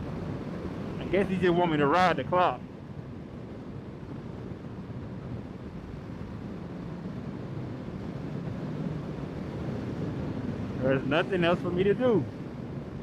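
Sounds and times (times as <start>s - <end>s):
wind rush on helmet microphone: 0.0s - 13.0s.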